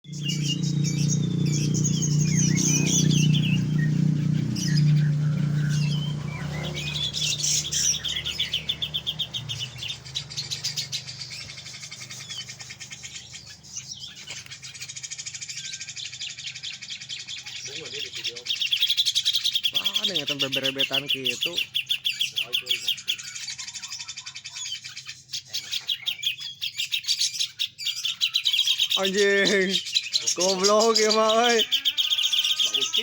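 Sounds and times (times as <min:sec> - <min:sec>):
bird singing and chattering: 0:00.0 - 0:33.0.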